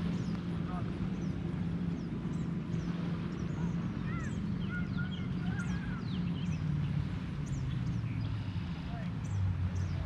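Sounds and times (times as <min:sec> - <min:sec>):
songbirds chirping and whistling: 0:00.0 - 0:10.0.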